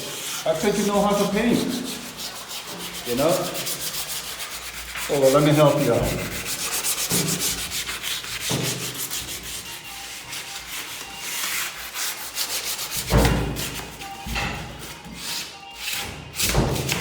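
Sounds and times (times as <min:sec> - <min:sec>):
sandpaper scraping a surface: 0:00.0 - 0:14.1.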